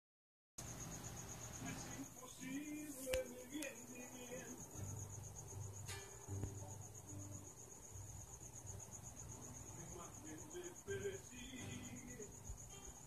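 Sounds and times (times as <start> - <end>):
cricket chirping: 0.6 - 13.0.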